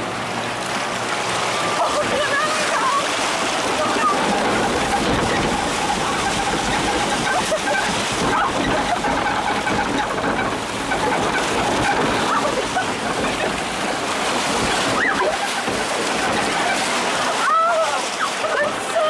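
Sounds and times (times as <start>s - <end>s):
water rushing and sloshing: 0.0s - 19.0s.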